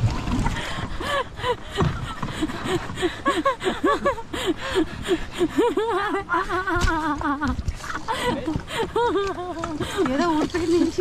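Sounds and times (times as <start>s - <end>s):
woman laughing breathlessly: 0.6s - 10.2s.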